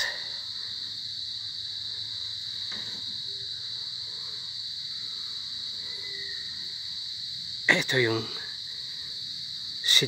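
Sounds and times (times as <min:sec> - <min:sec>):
high-pitched insect trilling: 0:00.0 - 0:10.0.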